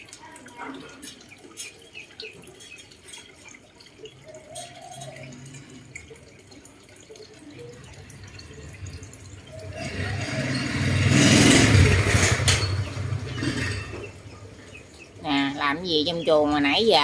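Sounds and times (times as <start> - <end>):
water dripping and trickling: 0.0 - 17.0.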